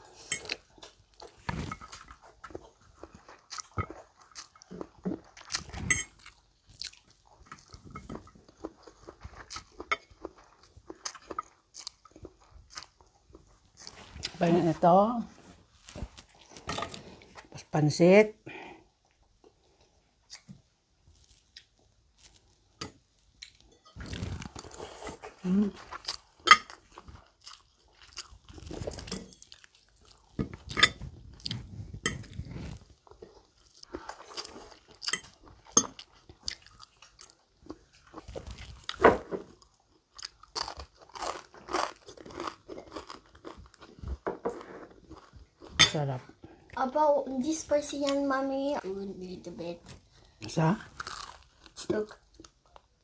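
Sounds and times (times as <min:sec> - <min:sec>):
chewing and crunching food: 0:00.0 - 0:17.6, 0:18.6 - 0:53.0.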